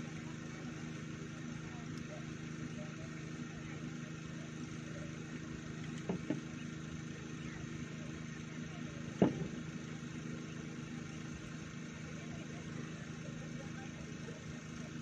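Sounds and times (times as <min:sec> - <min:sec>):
motor idling hum: 0:00.0 - 0:15.0.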